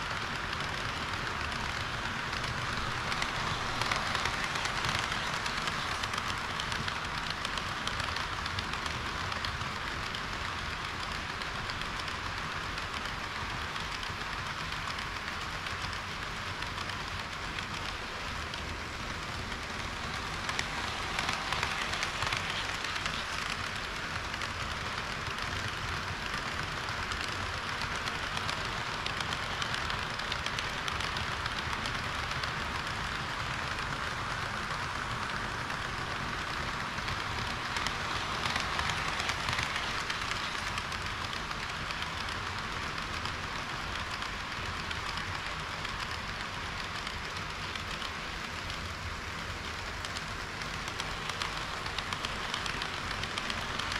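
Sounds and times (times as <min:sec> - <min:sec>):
model train wheels rattling: 0:00.0 - 0:53.9.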